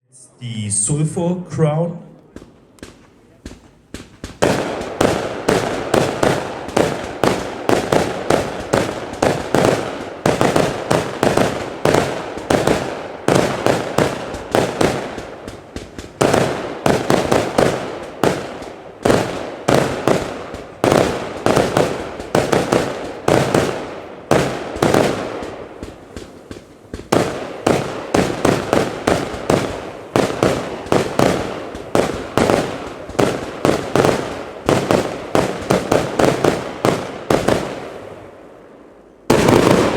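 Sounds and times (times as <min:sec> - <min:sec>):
firework barrage shots: 0:02.3 - 0:38.4, 0:39.3 - 0:39.9.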